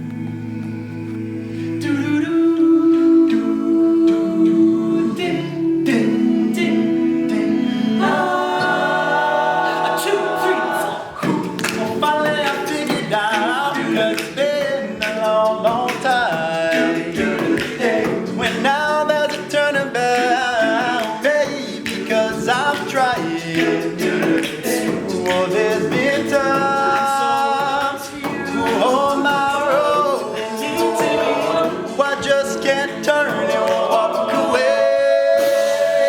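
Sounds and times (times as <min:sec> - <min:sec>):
male choir singing a cappella: 0:00.0 - 0:36.0.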